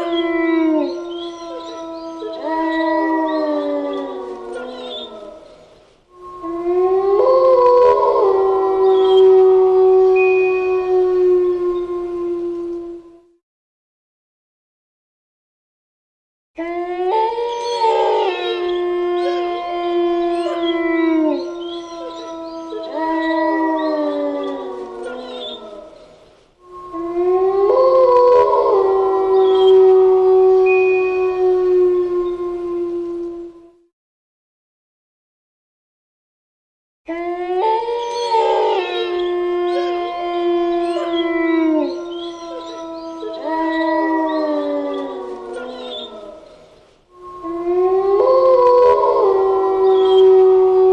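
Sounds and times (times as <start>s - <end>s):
wolves howling: 0.0s - 13.4s, 16.6s - 33.9s, 37.1s - 50.9s.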